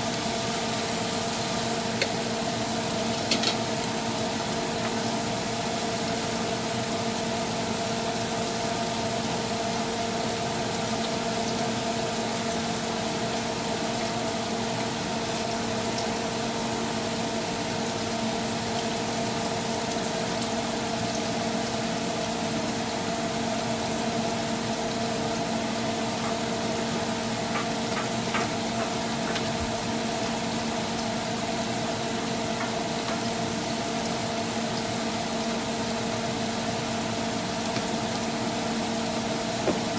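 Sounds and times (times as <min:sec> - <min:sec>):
shrimp sizzling in pan: 0:00.0 - 0:39.9.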